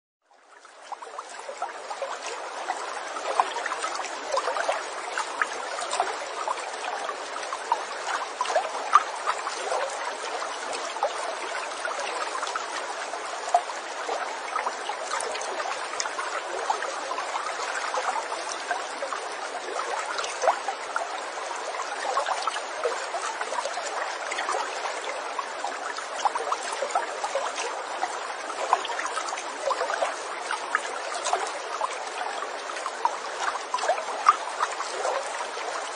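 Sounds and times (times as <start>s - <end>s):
small stream babbling: 0.3s - 35.9s
water ticks and plops: 0.3s - 35.9s.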